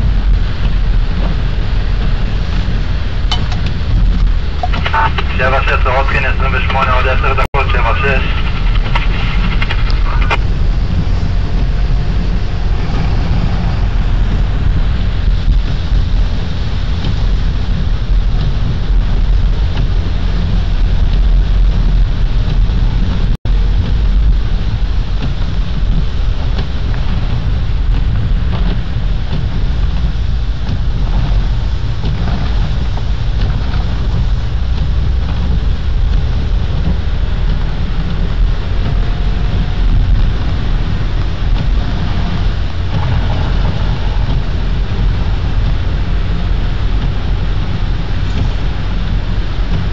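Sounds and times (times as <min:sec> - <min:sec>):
car engine and tyres rumbling: 0:00.0 - 0:49.9.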